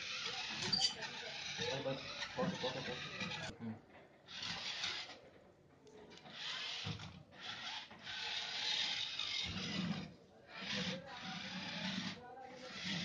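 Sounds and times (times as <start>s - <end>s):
rasping rubbing noise: 0.0s - 3.6s, 4.3s - 5.2s, 6.2s - 13.0s.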